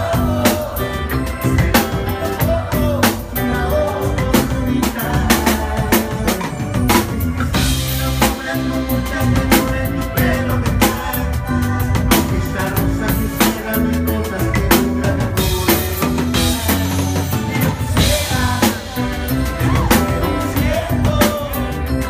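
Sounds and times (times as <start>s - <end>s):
bass line: 0.0s - 22.0s
congas: 0.0s - 22.0s
drum kit beat: 0.0s - 22.0s
electric guitar: 0.0s - 22.0s.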